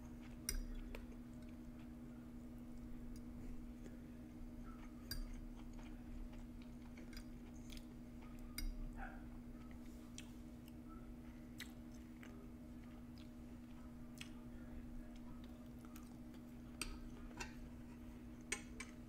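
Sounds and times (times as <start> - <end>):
chewing food: 0.0 - 19.0
steady low hum: 0.0 - 19.0.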